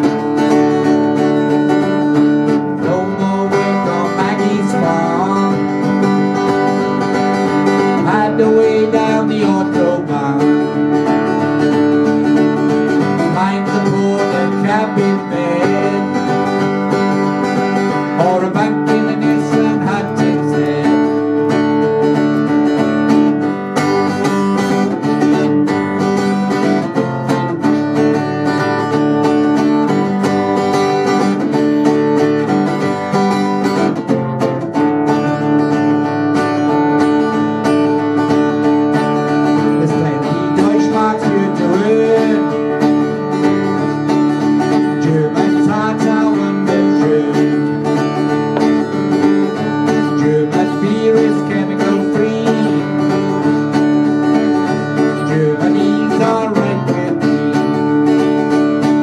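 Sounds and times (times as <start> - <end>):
acoustic guitars strumming: 0.0 - 59.0.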